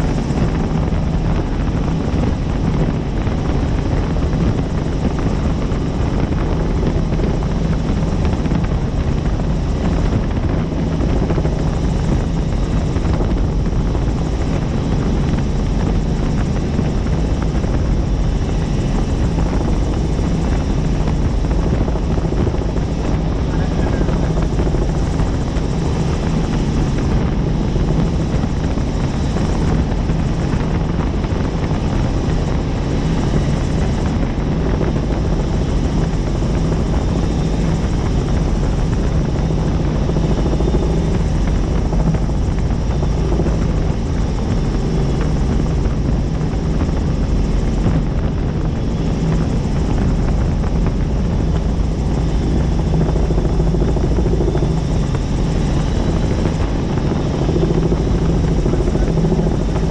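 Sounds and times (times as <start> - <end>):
helicopter in flight: 0.0 - 59.9.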